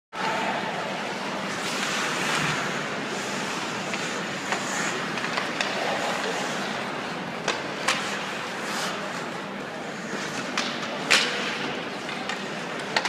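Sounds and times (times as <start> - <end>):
arena noise: 0.2 - 13.0
skates on ice: 1.1 - 13.0
hockey sticks and puck clacking: 1.5 - 13.0.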